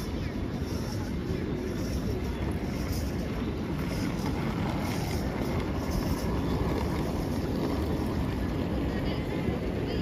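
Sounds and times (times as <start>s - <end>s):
city plaza low rumble: 0.0s - 10.0s.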